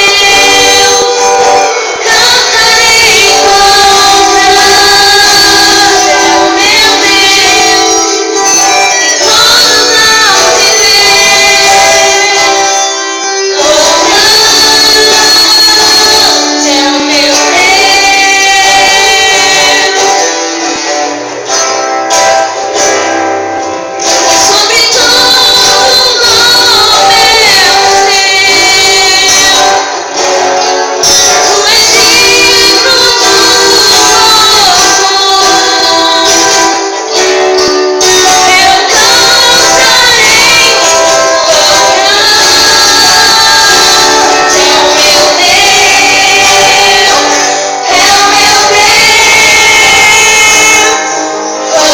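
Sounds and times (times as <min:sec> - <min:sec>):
loud band music with singer: 0:00.0 - 0:51.9.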